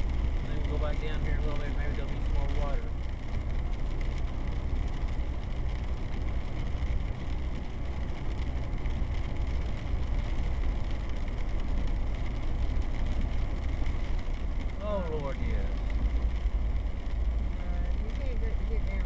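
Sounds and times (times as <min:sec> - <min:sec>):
car engine rumble: 0:00.0 - 0:19.0
tyres on wet road: 0:00.0 - 0:19.0.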